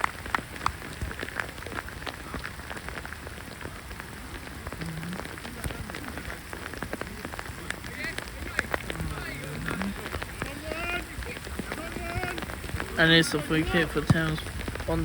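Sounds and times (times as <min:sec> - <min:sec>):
heavy rain hissing: 0:00.0 - 0:15.0
raindrop taps: 0:00.0 - 0:15.0.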